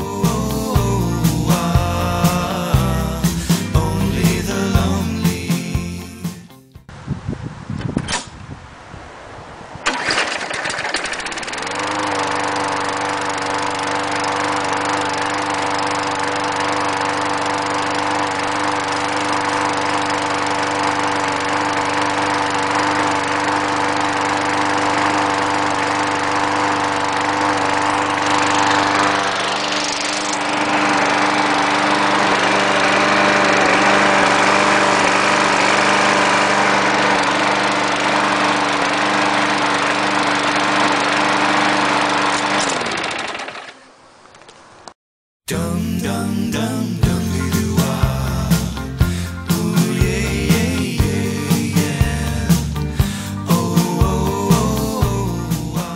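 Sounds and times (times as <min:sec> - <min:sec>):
small engine running: 0:00.0 - 0:06.5, 0:09.8 - 0:44.9, 0:45.5 - 0:55.9.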